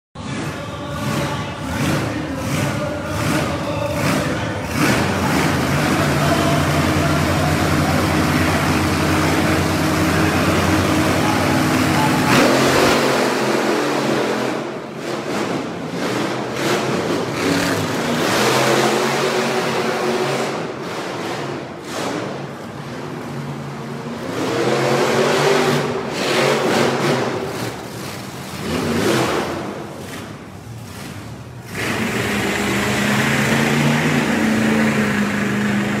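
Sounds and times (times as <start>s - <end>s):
monster truck engines revving: 0.2s - 36.0s.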